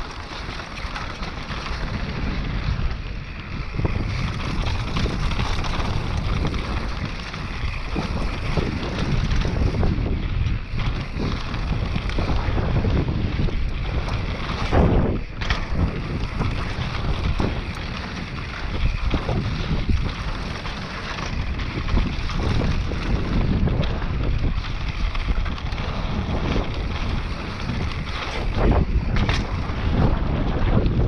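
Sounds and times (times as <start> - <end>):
bike knocks and rattles: 0.0 - 31.0
tyres rumbling on dirt: 0.0 - 31.0
wind rushing over microphone: 0.0 - 31.0.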